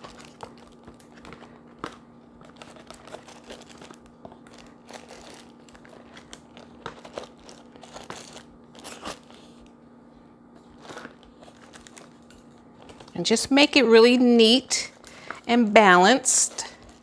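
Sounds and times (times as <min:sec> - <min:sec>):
paper and packaging rustling: 0:00.0 - 0:09.8, 0:10.5 - 0:13.7, 0:14.4 - 0:17.0.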